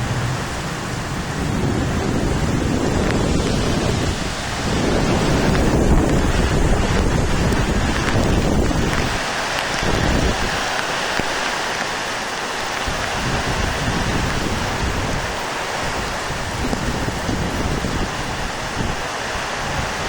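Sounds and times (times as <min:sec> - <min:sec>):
wind gusting on microphone: 0:00.0 - 0:20.0.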